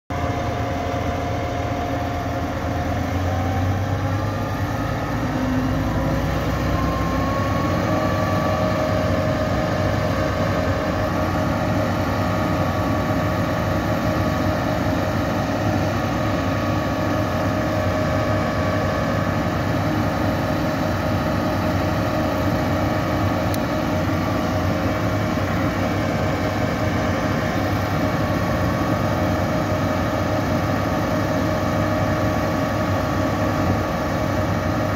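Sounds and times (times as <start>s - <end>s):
diesel engine and hydraulic pump: 0.1s - 34.9s.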